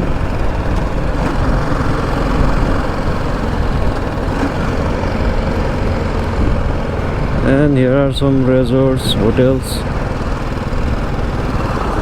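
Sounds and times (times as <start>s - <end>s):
motorcycle engine running: 0.0s - 12.0s
road and traffic noise: 0.0s - 12.0s.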